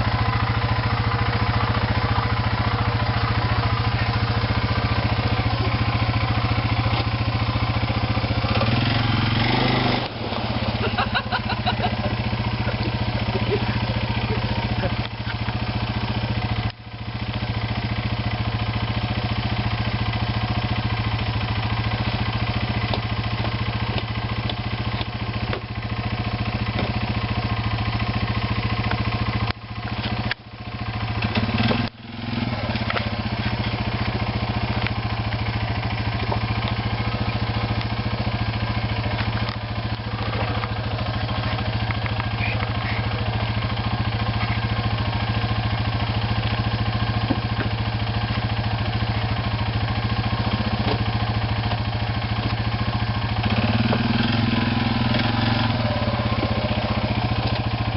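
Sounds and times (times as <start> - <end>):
atv engine running steadily: 0.0 - 57.9.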